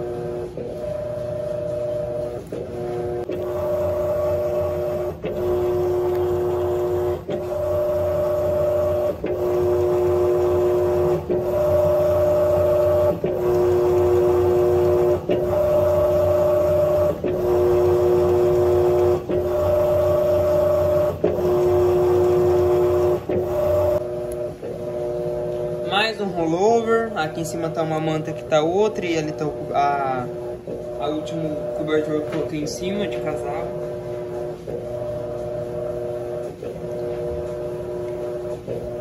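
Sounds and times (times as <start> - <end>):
washing machine motor humming and whining: 0.0 - 39.0.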